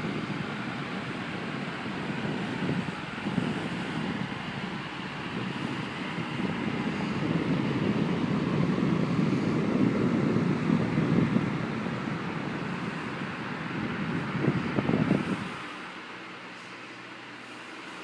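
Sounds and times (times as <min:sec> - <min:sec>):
fan blowing on microphone: 0:00.0 - 0:18.0.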